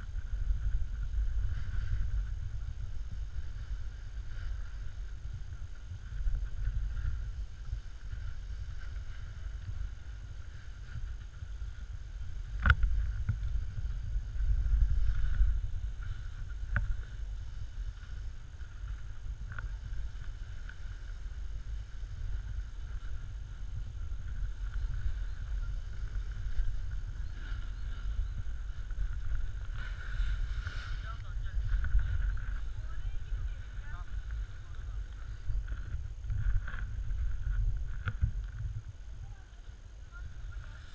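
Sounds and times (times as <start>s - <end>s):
snowboard scraping over snow: 0.0s - 40.9s
wind on microphone: 0.0s - 40.9s.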